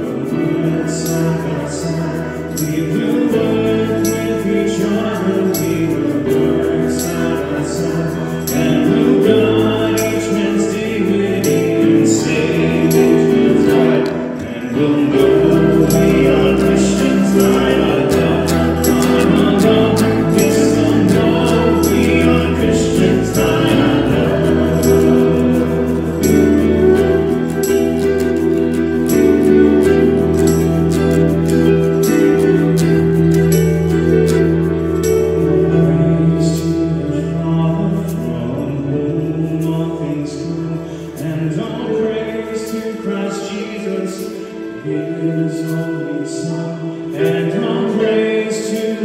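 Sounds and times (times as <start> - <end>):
bass notes: 0.0 - 40.8
electric guitar playing chords: 0.0 - 49.0
voices singing together: 0.0 - 49.0.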